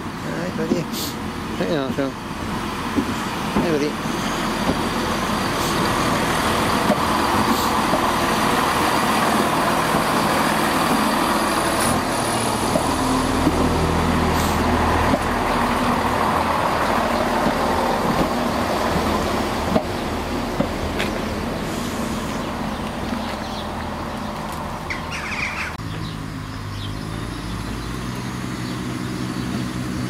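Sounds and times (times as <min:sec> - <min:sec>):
train wheels rolling on rails: 0:00.0 - 0:24.9
diesel train engines running: 0:00.0 - 0:30.0.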